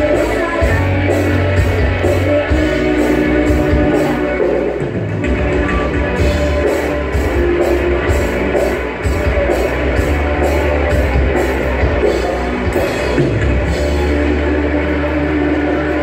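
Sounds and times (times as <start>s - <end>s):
electric guitar: 0.0s - 16.0s
heavy bass: 0.0s - 16.0s
loud rock music: 0.0s - 16.0s.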